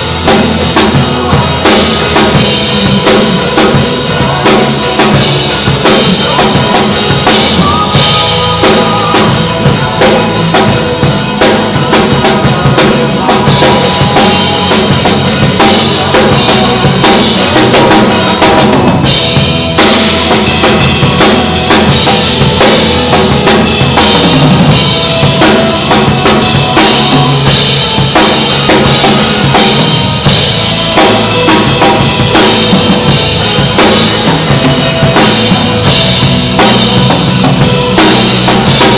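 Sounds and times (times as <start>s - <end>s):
drum kit playing a beat: 0.0s - 38.9s
pop backing track: 0.0s - 38.9s.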